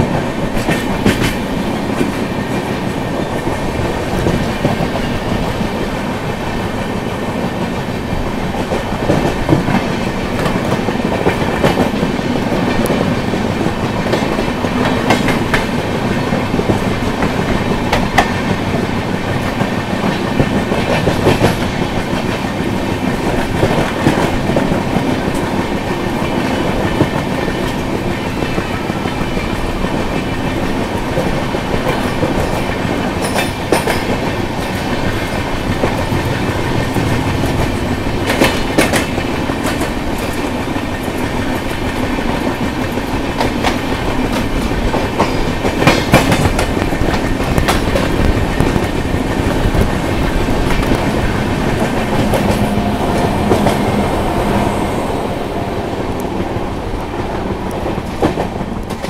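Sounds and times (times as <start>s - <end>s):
train coaches rumbling: 0.0s - 59.0s
wheels clacking over rail joints: 0.0s - 59.0s.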